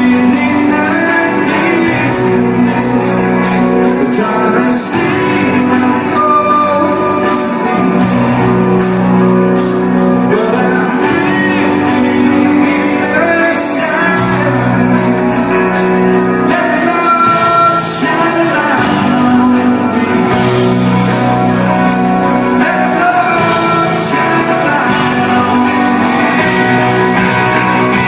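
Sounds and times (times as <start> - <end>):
live rock band: 0.0 - 28.0
person singing: 0.0 - 28.0.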